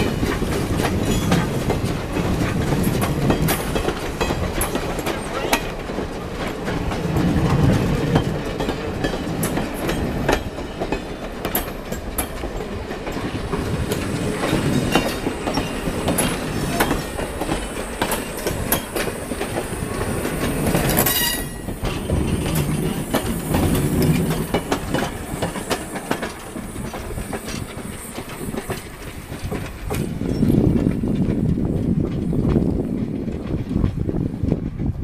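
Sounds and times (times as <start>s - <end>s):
train rumble: 0.0s - 35.0s
train wheels clattering: 0.0s - 35.0s.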